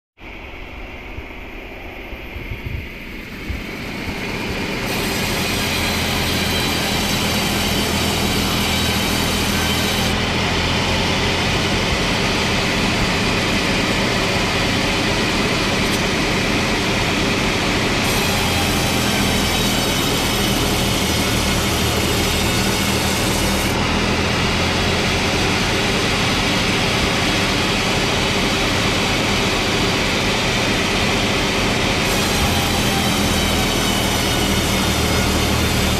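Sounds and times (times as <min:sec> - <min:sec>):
high ringing saw tones: 0:00.3 - 0:35.9
sawmill saw cutting log: 0:03.0 - 0:35.9.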